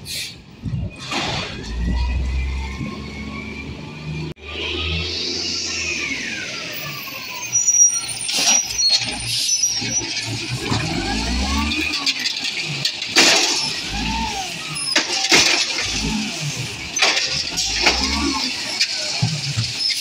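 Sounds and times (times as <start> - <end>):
hydraulics whining: 0.4 - 20.0
diesel engine running: 1.0 - 19.9.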